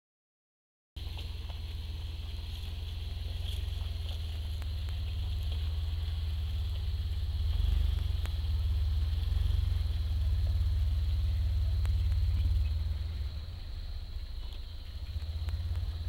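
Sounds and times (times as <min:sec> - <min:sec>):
pickup truck engine rumbling: 0:01.0 - 0:16.0.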